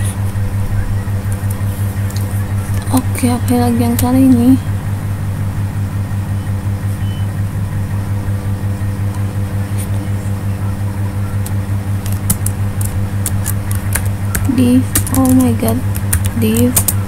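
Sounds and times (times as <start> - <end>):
pulsing low hum: 0.0 - 17.0.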